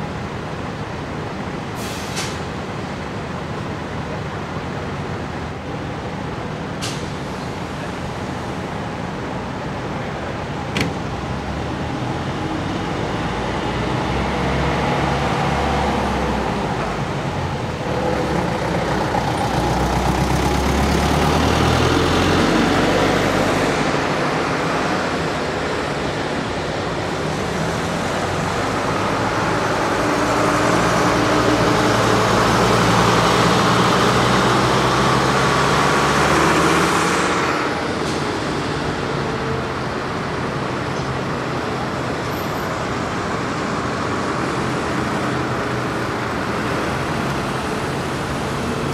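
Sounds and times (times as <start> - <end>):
diesel buses driving past: 0.0 - 48.9.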